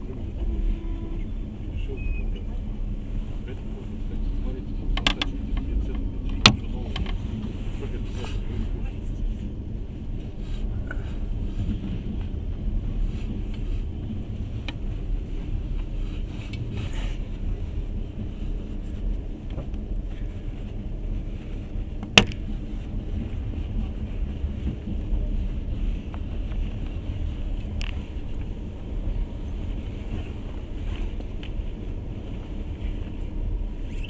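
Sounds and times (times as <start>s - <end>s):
train carriage rumbling: 0.0s - 34.0s.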